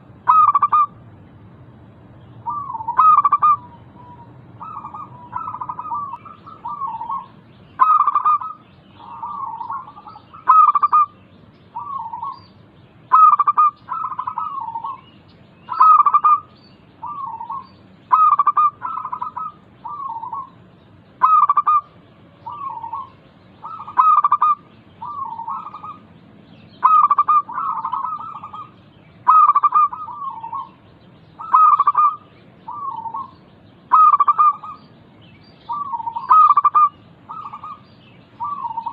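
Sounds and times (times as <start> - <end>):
dove cooing: 0.0 - 1.0, 2.4 - 11.2, 11.8 - 12.5, 13.1 - 15.1, 15.7 - 20.6, 21.2 - 26.1, 26.8 - 30.8, 31.4 - 34.8, 35.7 - 37.8, 38.4 - 38.9.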